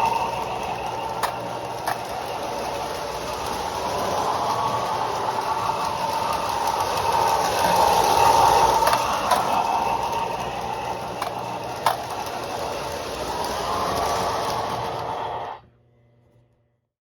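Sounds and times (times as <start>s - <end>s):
model train motor and wheel hum: 0.0s - 16.6s.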